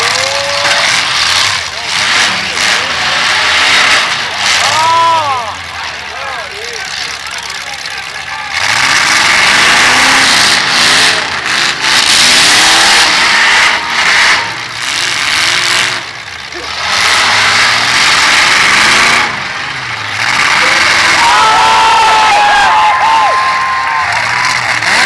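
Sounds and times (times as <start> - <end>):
car engines revving hard: 0.0 - 25.0
cars ramming each other: 0.0 - 25.0.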